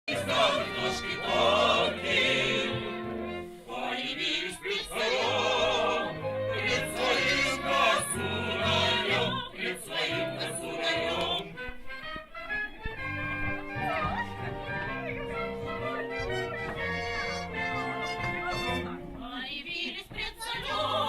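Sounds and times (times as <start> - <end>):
choir singing operatically: 0.1 - 11.7, 13.8 - 21.0.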